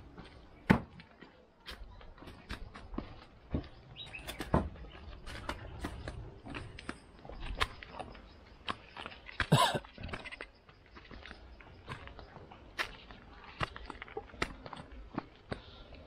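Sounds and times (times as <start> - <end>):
footsteps crunching on dirt trail: 0.0 - 16.0.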